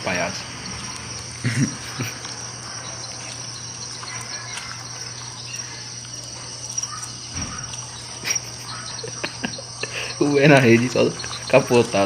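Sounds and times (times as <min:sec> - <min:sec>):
crickets chirping: 0:00.0 - 0:12.0
low steady hum: 0:00.0 - 0:12.0.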